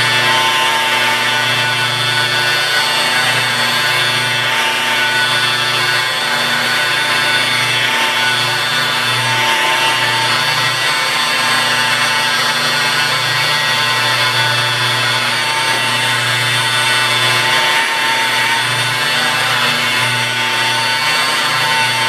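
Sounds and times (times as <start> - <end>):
rotary polisher motor hum: 0.0 - 22.0.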